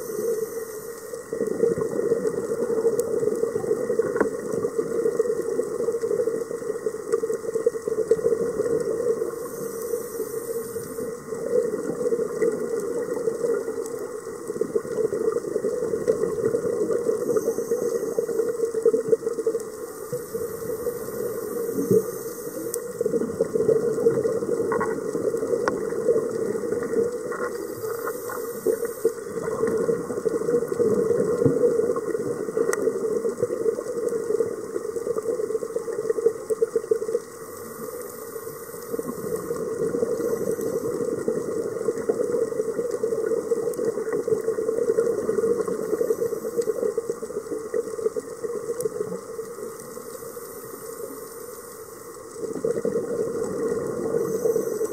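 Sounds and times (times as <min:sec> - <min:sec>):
steady hiss and hum: 0:00.0 - 0:54.9
exhaled bubbles rushing: 0:01.2 - 0:09.5, 0:10.3 - 0:37.3, 0:38.9 - 0:49.4, 0:52.3 - 0:54.9.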